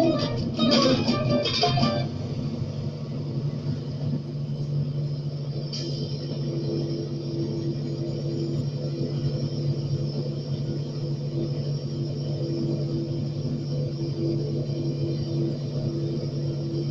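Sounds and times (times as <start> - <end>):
truck engine droning: 0.0 - 16.9.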